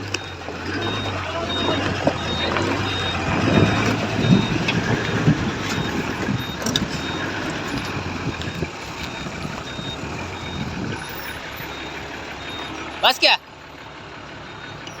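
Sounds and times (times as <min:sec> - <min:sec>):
reversing alarm beeps: 0:00.0 - 0:13.4, 0:14.4 - 0:15.0
diesel truck engine running: 0:00.0 - 0:15.0.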